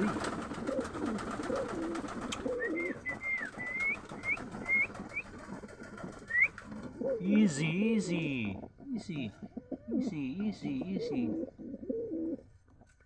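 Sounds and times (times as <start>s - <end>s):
pigeons cooing: 0.0s - 12.6s.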